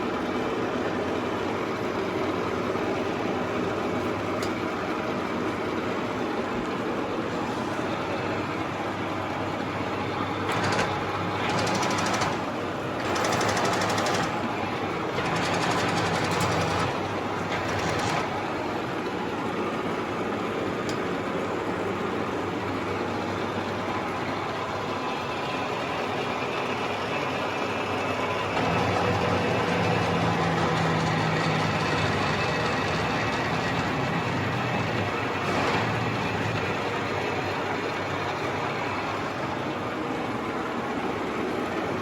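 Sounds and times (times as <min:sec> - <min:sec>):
milling machine humming: 0:00.0 - 0:42.0.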